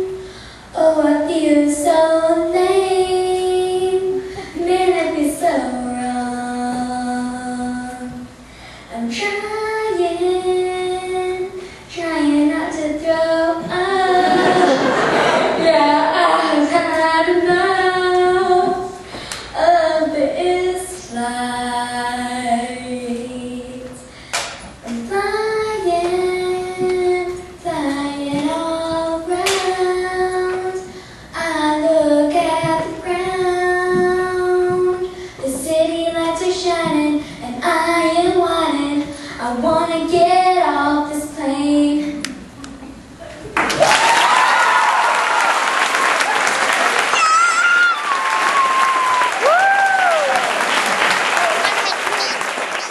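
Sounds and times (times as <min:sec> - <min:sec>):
girl singing: 0:00.0 - 0:14.8, 0:15.5 - 0:43.2.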